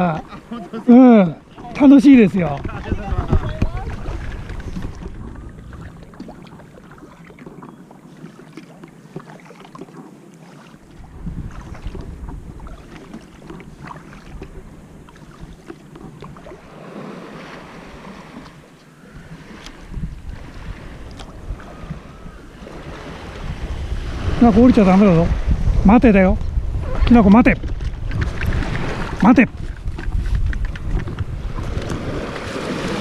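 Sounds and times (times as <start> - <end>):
wind gusting on microphone: 0.0 - 7.6, 10.9 - 18.5, 19.1 - 33.0
water splashing around a kayak: 0.0 - 33.0.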